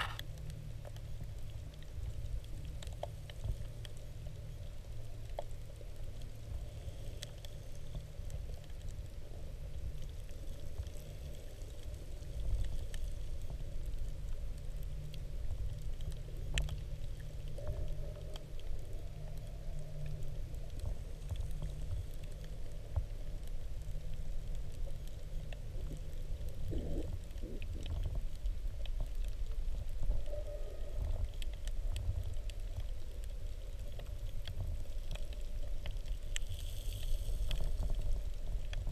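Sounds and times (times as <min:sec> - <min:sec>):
faint clicks and crackles: 0:00.0 - 0:38.9
muffled underwater rumble: 0:00.0 - 0:38.9.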